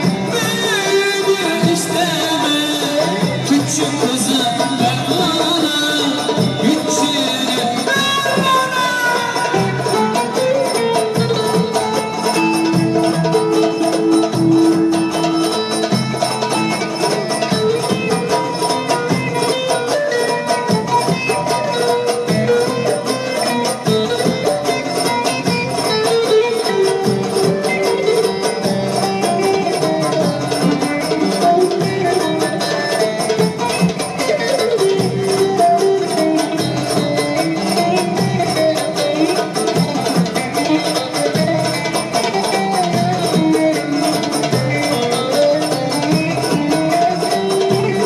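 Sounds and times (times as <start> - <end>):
folk dance melody: 0.0 - 48.0.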